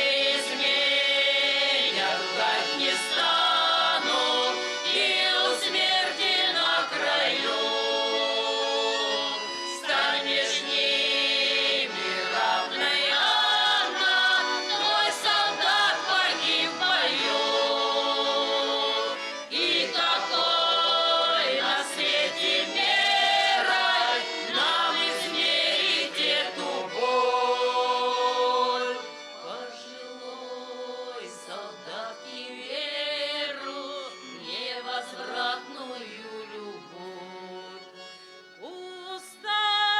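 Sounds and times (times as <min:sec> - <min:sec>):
choir singing with instruments: 0:00.0 - 0:38.1.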